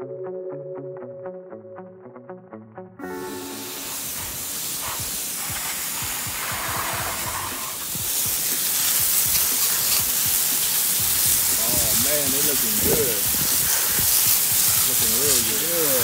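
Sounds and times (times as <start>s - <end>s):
hose spraying water: 3.0s - 16.0s.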